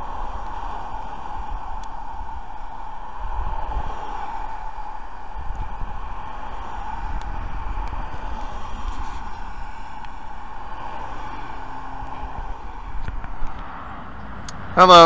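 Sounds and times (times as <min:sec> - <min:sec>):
cars driving by: 0:00.0 - 0:15.0
wind rumble on microphone: 0:00.0 - 0:15.0.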